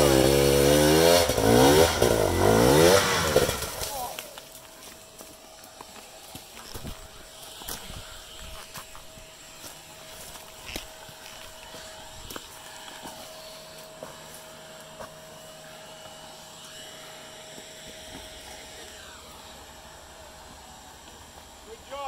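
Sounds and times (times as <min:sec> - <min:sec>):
dirt bike engine running: 0:00.0 - 0:21.9.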